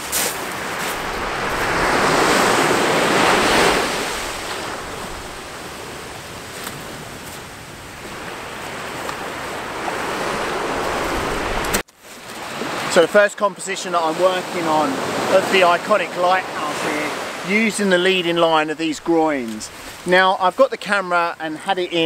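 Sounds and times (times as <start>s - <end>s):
small waves breaking on beach: 0.0s - 20.3s.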